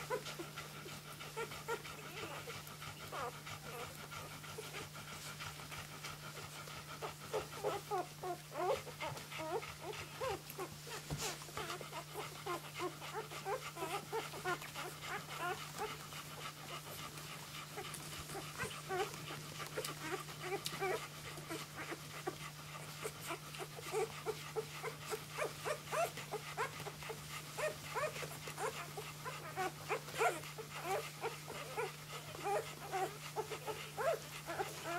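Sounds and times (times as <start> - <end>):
puppies squeaking and whimpering: 1.4 - 5.3, 7.3 - 34.9.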